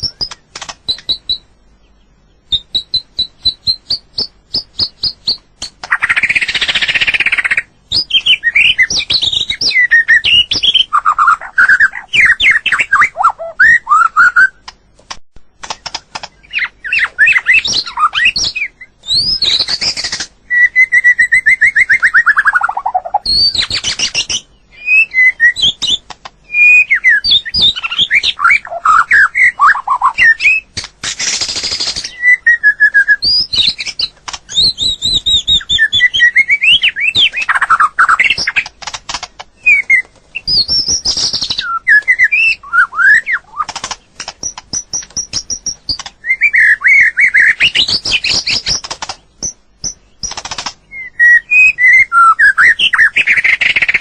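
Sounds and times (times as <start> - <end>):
bird singing whistled phrases: 2.4 - 14.6, 16.4 - 30.7, 31.4 - 38.7, 39.6 - 43.7, 44.4 - 48.8, 49.4 - 54.0.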